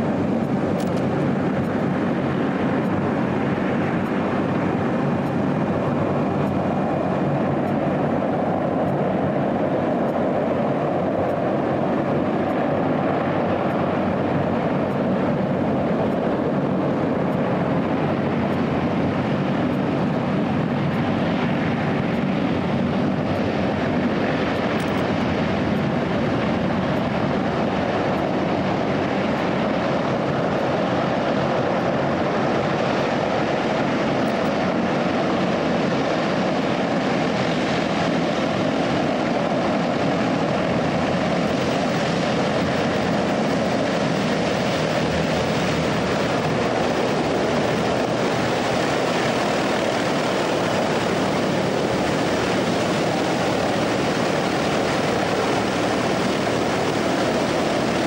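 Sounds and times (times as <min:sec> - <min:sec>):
hovercraft engines and propellers roaring: 0:00.0 - 0:58.0.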